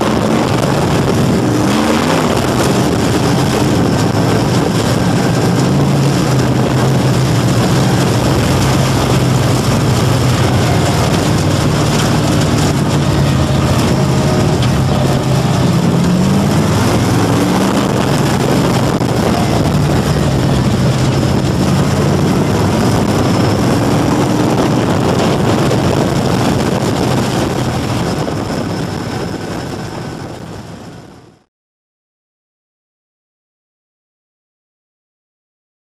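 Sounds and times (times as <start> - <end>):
race car engine from cockpit: 0.0 - 31.5.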